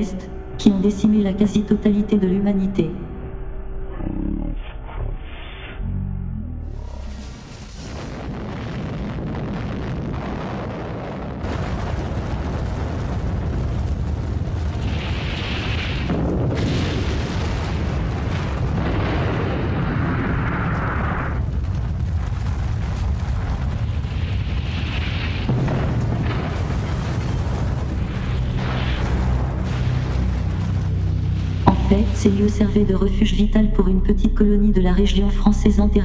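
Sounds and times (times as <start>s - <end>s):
explosion deep rumble: 3.8s - 36.0s.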